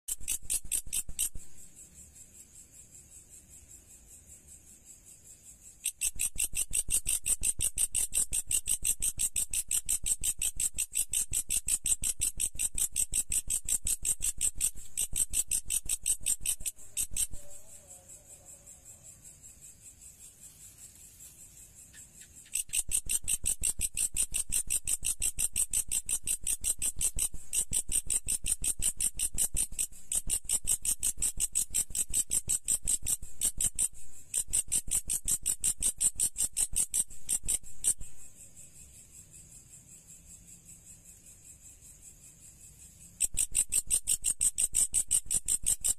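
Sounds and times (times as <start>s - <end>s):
insect chirping: 0.1s - 45.9s.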